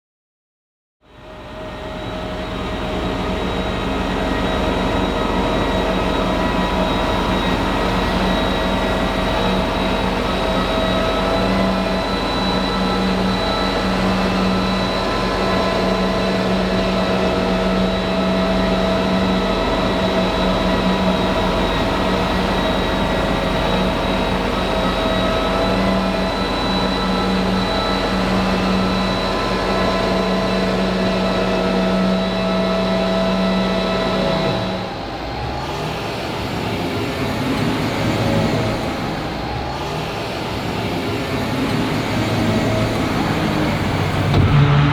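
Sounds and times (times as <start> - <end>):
machine whine: 1.1 - 44.9.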